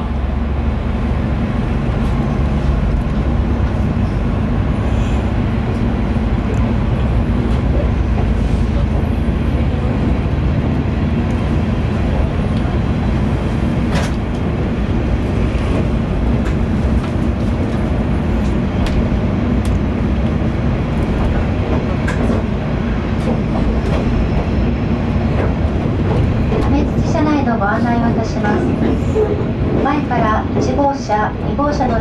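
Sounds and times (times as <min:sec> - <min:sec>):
train engine drone: 0:00.0 - 0:32.0.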